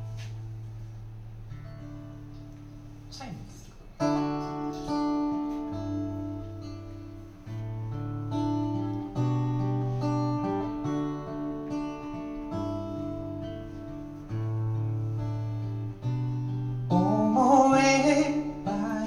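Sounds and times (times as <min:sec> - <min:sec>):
acoustic guitar strumming chords: 0:00.0 - 0:03.1, 0:03.8 - 0:19.0.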